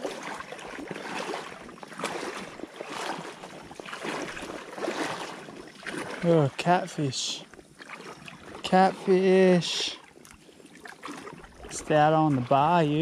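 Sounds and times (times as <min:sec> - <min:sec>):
wading through shallow water: 0:00.0 - 0:13.0.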